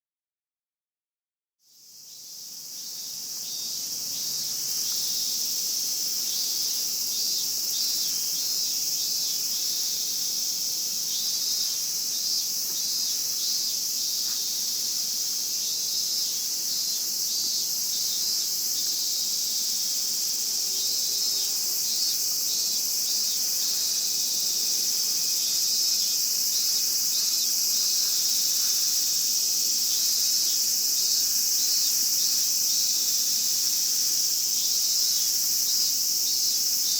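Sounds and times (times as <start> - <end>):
cicadas buzzing: 1.7 - 36.9
pulsing cicada calls: 1.7 - 36.9.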